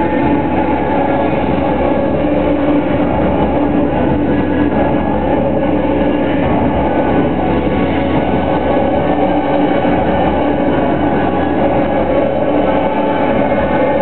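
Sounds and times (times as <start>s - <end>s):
low bass notes: 0.0s - 14.0s.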